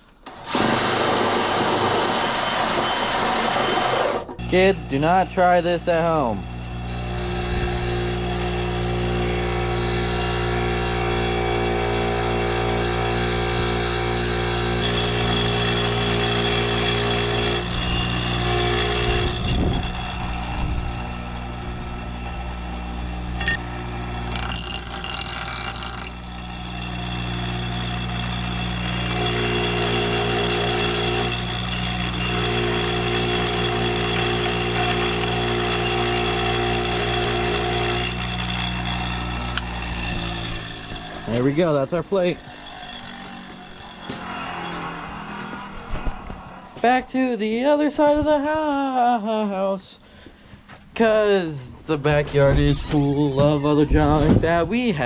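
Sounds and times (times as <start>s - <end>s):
power tool whining on steel: 0.1s - 46.8s.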